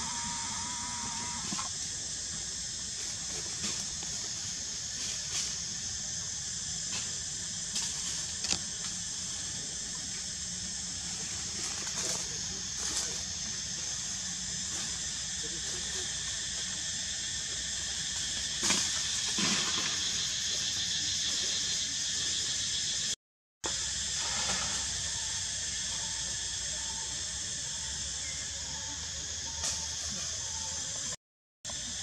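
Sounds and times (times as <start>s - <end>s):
forest ambience hissing drone: 0.0s - 32.0s.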